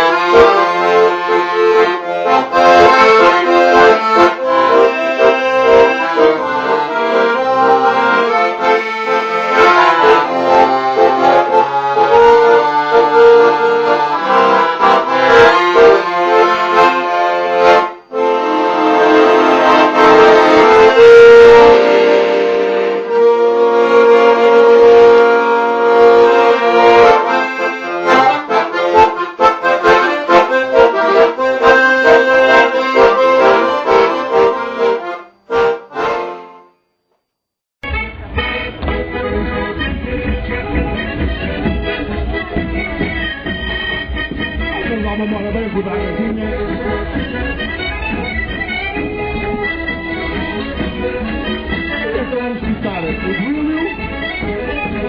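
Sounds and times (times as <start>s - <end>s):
instrumental music: 0.0s - 37.2s, 37.8s - 55.0s.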